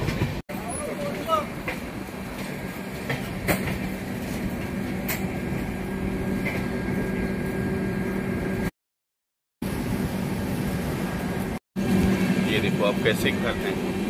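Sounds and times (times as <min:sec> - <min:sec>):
train rumble inside coach: 0:00.0 - 0:08.7, 0:09.6 - 0:14.0.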